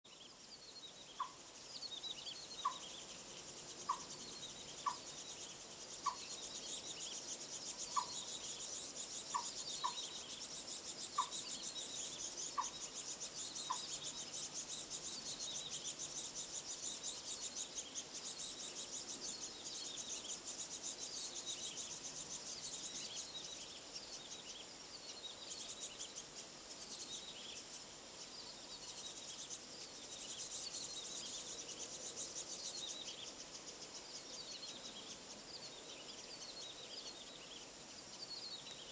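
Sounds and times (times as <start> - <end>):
high insect whine: 0.1 - 38.9
rapid high-pitched chirping: 1.1 - 37.5.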